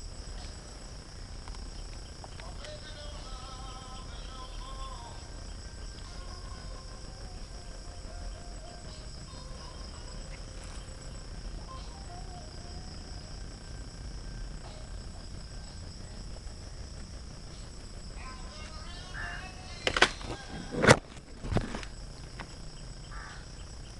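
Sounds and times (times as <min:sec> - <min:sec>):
faint low rumble: 0:00.0 - 0:23.9
insect chorus: 0:00.0 - 0:23.9.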